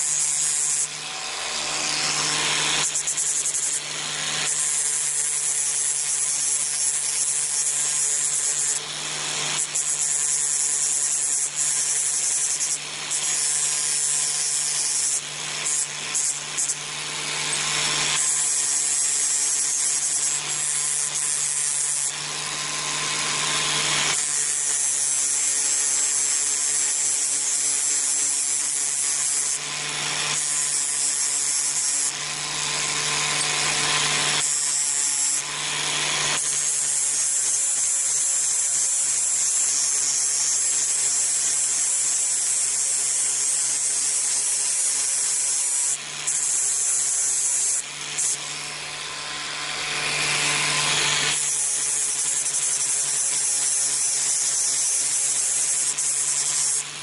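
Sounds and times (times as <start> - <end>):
power tool motor hum: 0.0 - 57.0.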